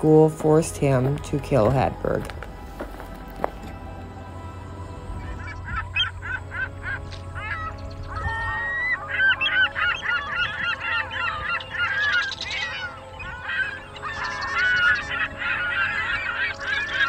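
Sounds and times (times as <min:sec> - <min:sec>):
birds honking: 0:00.0 - 0:17.0.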